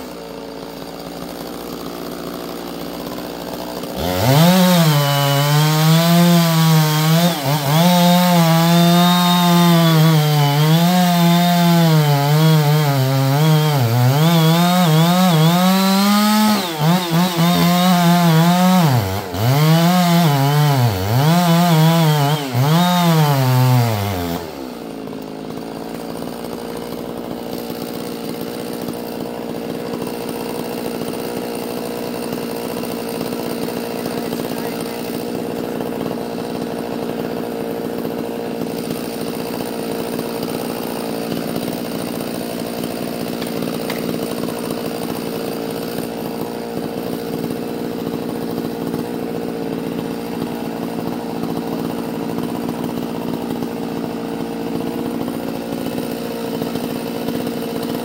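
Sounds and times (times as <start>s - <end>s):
chainsaw cutting wood: 0.0s - 58.0s
chainsaw running steadily: 0.0s - 58.0s.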